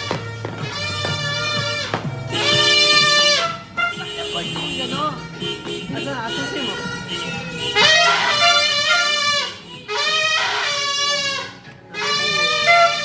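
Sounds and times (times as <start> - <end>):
buzzy horn blasts: 0.0 - 13.0.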